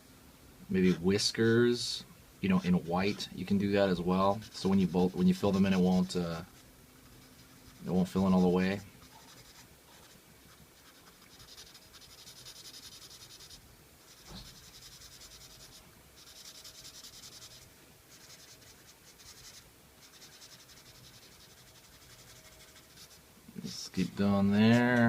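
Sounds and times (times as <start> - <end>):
marker scratching across paper: 0.8 - 1.6, 2.5 - 3.4, 4.4 - 25.0.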